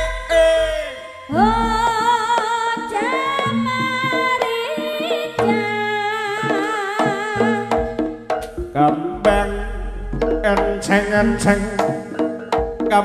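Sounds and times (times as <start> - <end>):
steady drum strokes: 2.2 - 13.0.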